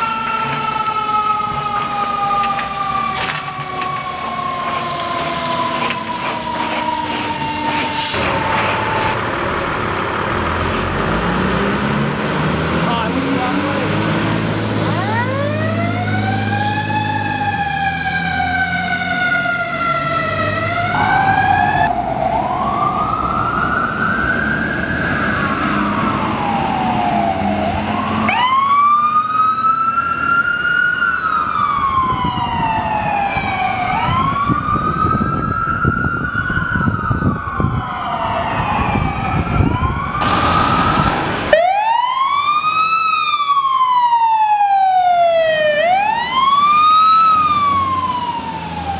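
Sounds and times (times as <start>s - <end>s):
emergency vehicle sirens wailing: 0.0s - 48.9s
fire truck engine running: 0.0s - 48.9s.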